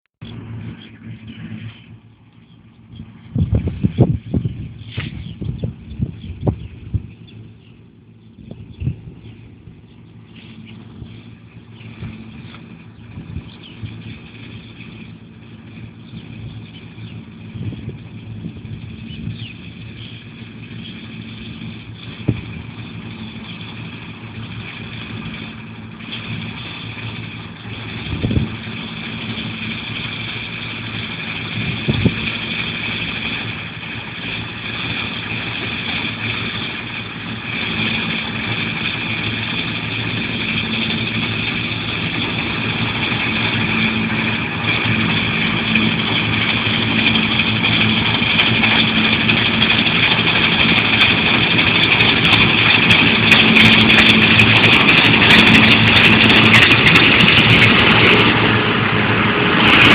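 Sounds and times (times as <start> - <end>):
combine harvester running: 0.2 - 59.9.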